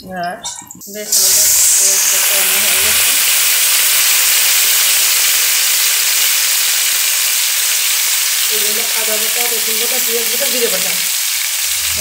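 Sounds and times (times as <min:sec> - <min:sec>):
liver and onion sizzling in oil: 0:00.9 - 0:12.0.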